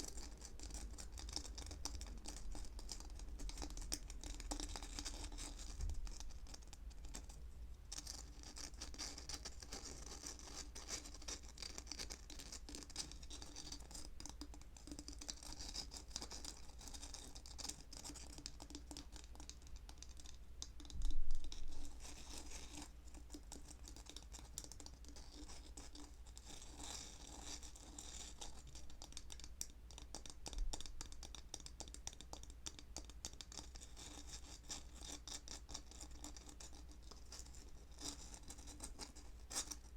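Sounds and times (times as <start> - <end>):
scratching and fine tapping: 0.0 - 39.9.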